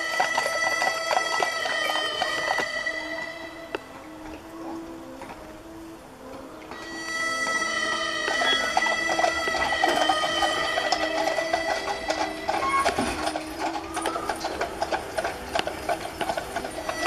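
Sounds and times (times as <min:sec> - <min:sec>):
irregular clicking and clatter: 0:00.0 - 0:05.4, 0:07.8 - 0:17.0
music with long held notes: 0:00.0 - 0:17.0.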